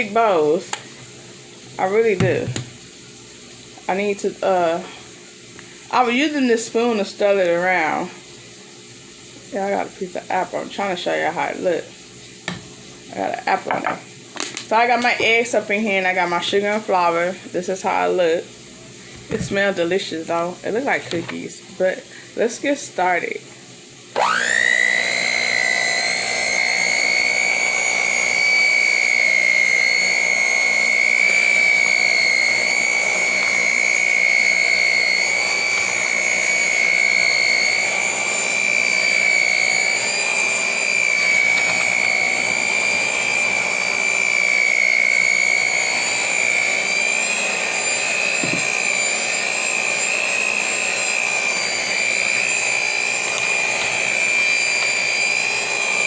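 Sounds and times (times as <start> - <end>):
electric mixer whining: 0.0 - 8.6, 9.5 - 18.5, 19.1 - 21.6, 24.1 - 56.0.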